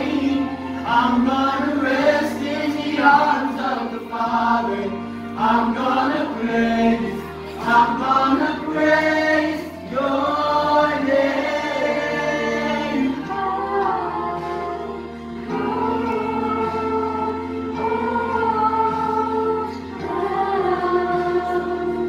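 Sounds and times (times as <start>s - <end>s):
choir singing worship song: 0.0s - 22.0s.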